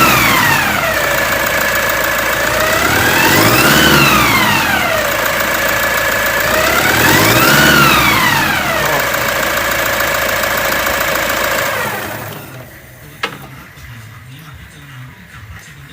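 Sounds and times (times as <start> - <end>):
engine with high whine: 0.0 - 14.1.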